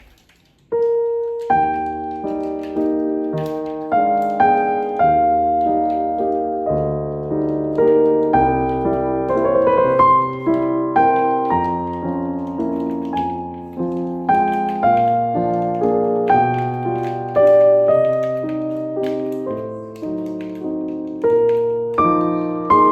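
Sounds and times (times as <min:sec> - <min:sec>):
piano music: 0:00.0 - 0:22.9.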